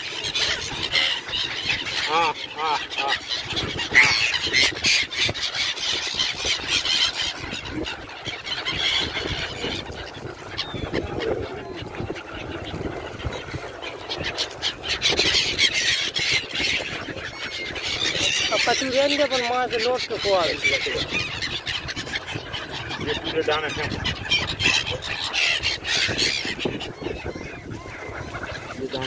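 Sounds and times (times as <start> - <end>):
gulls calling: 0.0 - 29.0.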